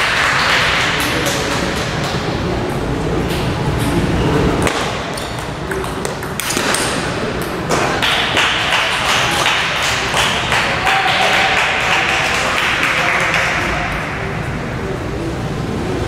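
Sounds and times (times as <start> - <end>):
room noise hiss: 0.0 - 16.0.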